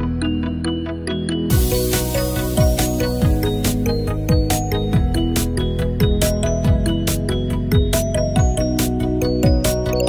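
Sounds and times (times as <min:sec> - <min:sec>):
electronic music: 0:00.0 - 0:10.0
synth and bell-like notes: 0:00.0 - 0:10.0.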